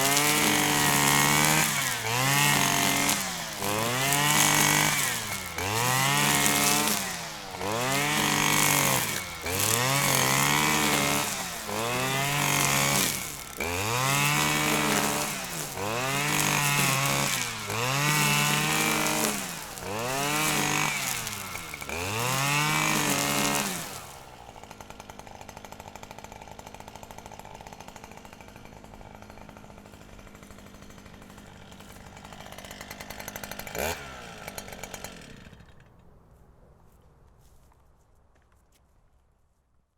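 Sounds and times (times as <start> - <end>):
grass trimmer revving: 0.0 - 35.9.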